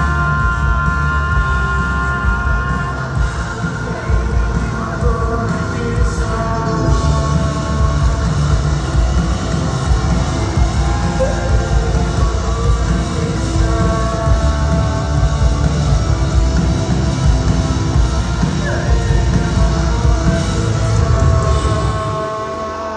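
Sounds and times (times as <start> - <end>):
rock band playing live: 0.0 - 22.9.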